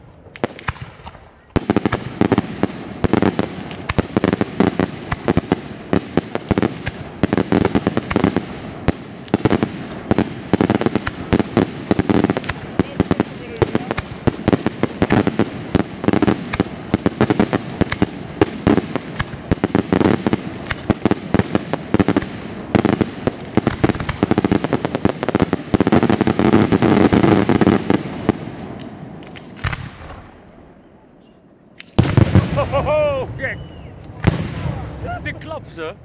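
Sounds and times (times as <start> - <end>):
fireworks bangs and crackles: 0.2 - 30.4, 31.9 - 35.9.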